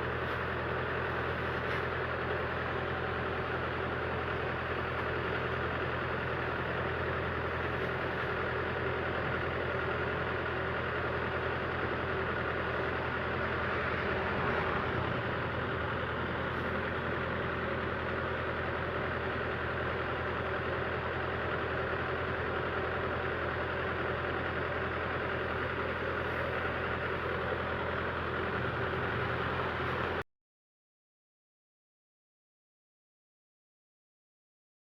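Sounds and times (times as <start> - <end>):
diesel engine running: 0.0 - 30.2.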